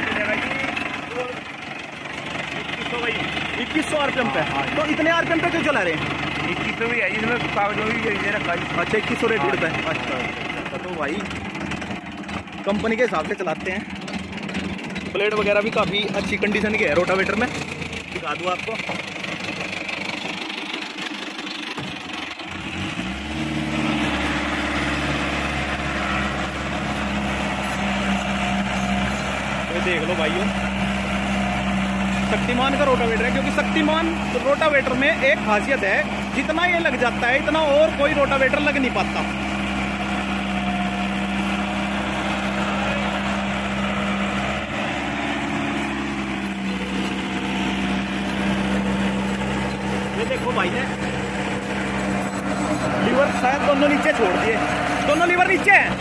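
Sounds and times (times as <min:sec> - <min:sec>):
rotavator blades churning ground: 0:00.0 - 0:56.0
tractor diesel engine revving: 0:00.0 - 0:56.0.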